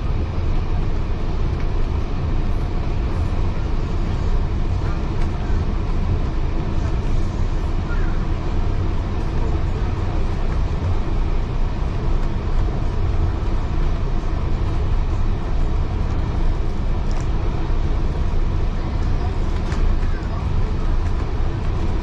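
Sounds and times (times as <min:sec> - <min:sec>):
railway carriage rumbling on track: 0:00.0 - 0:22.0.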